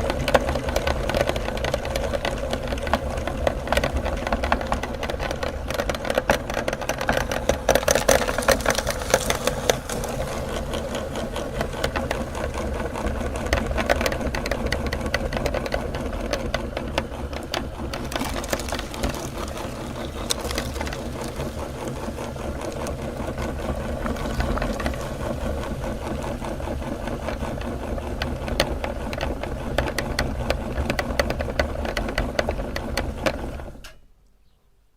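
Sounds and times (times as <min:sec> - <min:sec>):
electric meat grinder motor hum: 0:00.0 - 0:33.8
crackling and clicking of grinding: 0:00.0 - 0:34.4.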